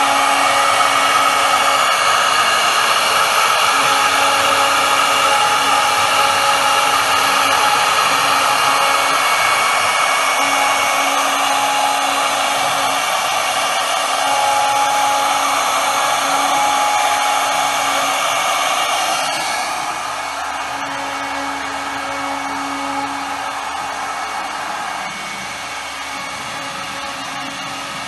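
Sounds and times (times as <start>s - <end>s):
cnc router cutting wood: 0.0s - 28.0s.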